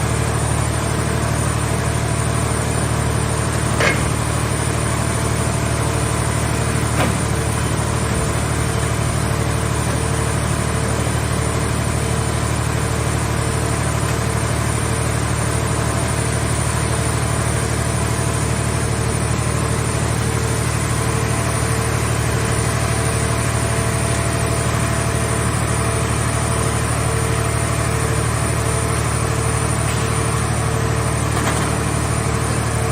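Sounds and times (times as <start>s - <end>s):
machine power unit droning: 0.0s - 32.9s.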